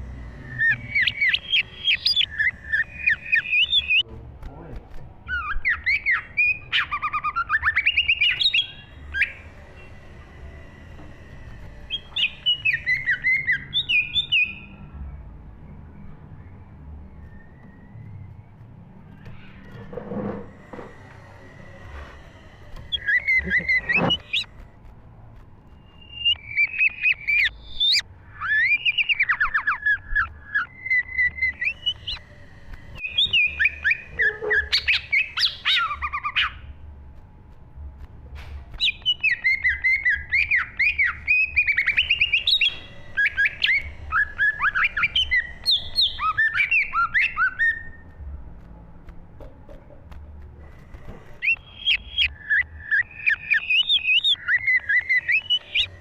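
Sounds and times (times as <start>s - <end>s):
bird singing: 0.0s - 4.1s, 5.2s - 24.7s, 25.6s - 36.8s, 38.7s - 48.4s, 50.7s - 56.0s.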